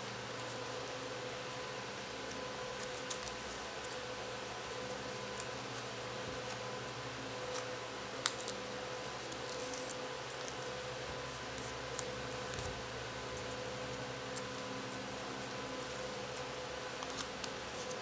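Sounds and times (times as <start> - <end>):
background hiss and hum: 0.0 - 18.0
paper crinkling and creasing: 0.4 - 6.7, 7.4 - 18.0.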